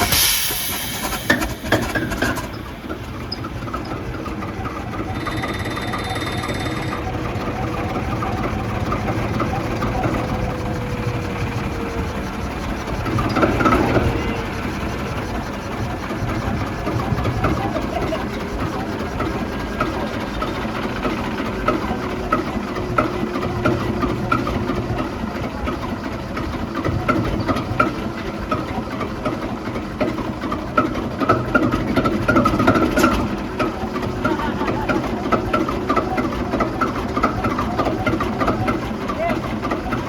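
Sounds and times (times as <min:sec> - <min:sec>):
diesel engine idling with clatter: 0:00.0 - 0:40.0.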